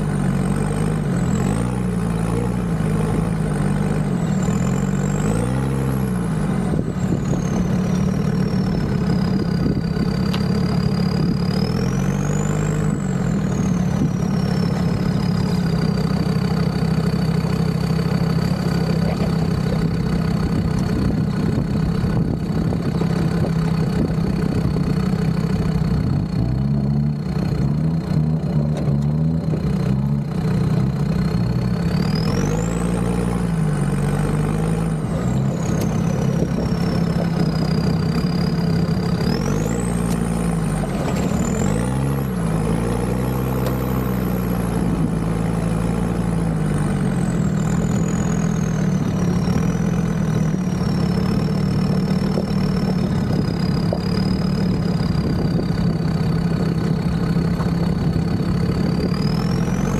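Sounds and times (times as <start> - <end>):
diesel engine running while driving: 0.0 - 59.9.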